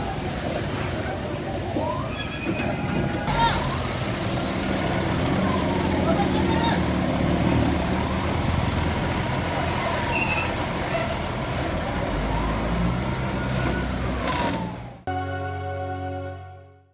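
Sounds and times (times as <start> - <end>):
heavy truck engines running: 0.0 - 15.1.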